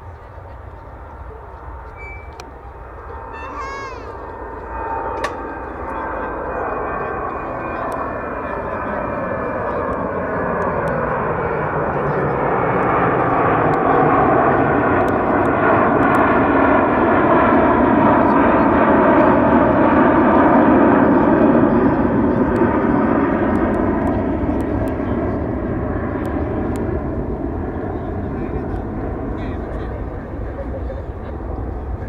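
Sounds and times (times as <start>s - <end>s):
jet airliner engine roar: 0.0s - 32.0s.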